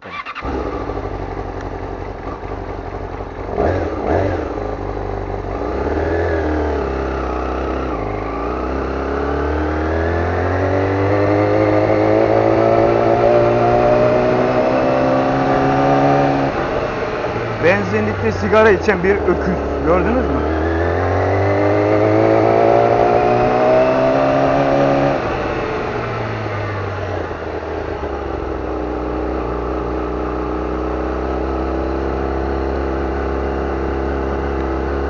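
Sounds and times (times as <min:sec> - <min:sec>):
motorcycle engine accelerating: 0:00.0 - 0:35.0
motorcycle engine revs: 0:00.0 - 0:35.0.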